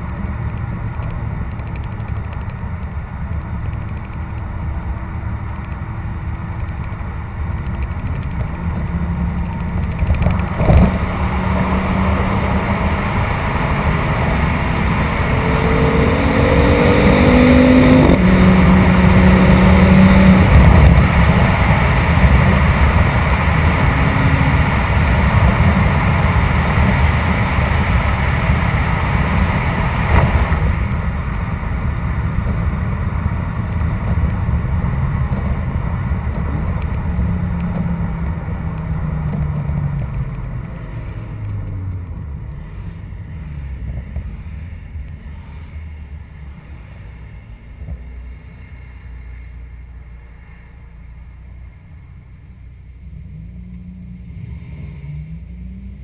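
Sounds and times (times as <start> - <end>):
car engines and exhaust: 0.0 - 56.0
road and wind noise: 0.0 - 56.0.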